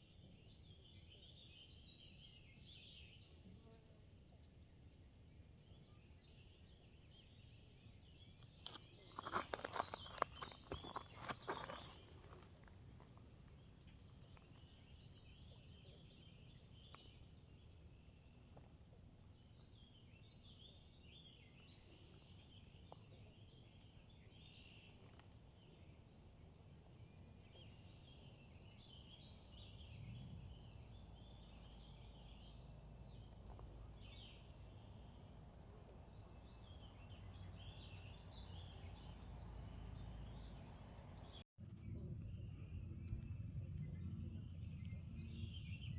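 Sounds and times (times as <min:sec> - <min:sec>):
low steady background rumble: 0:00.0 - 0:45.9
birds chirping and twittering: 0:05.0 - 0:45.9.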